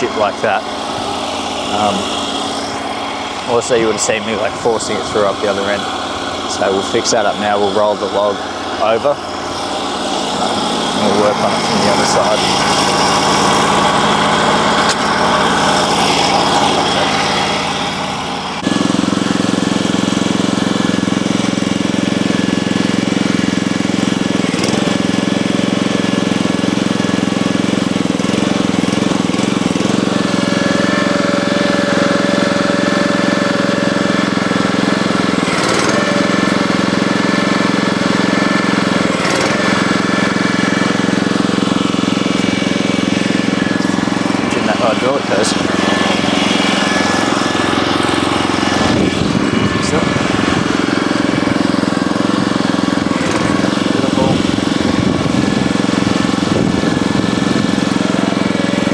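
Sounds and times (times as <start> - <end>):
petrol engine running: 0.0 - 58.9.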